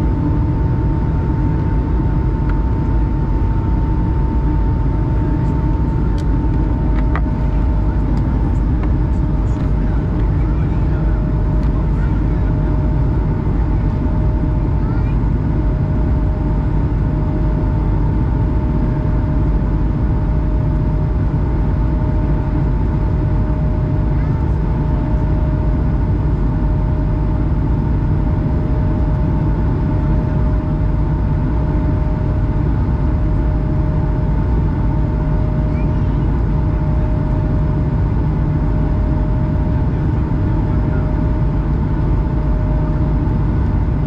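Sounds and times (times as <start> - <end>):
jet engine drone in cabin: 0.0 - 44.0.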